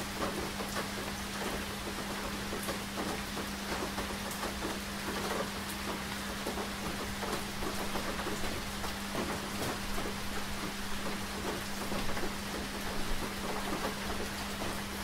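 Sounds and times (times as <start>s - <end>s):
rain drops tapping: 0.0s - 15.0s
steady rain hiss: 0.0s - 15.0s.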